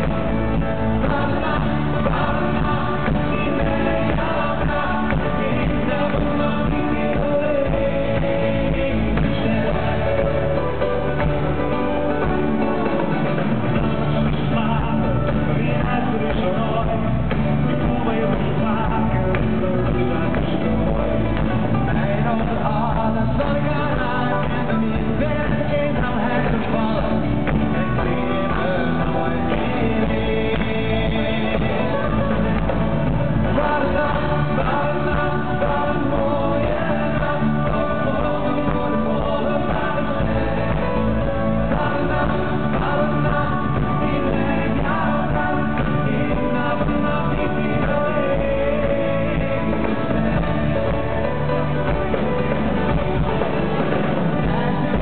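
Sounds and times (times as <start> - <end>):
drums: 0.0 - 55.0
electric bass: 0.0 - 55.0
men singing: 0.0 - 55.0.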